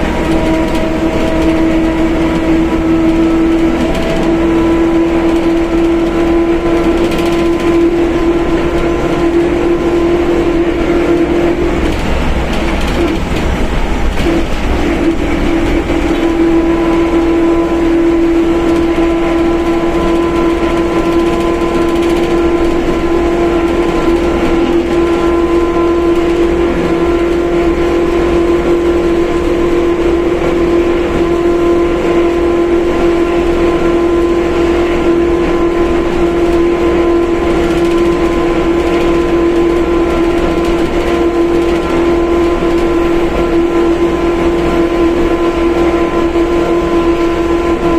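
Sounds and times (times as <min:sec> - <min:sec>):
bus differential howling: 0:00.0 - 0:47.9
bus engine: 0:00.0 - 0:47.9
road rumble: 0:00.0 - 0:47.9.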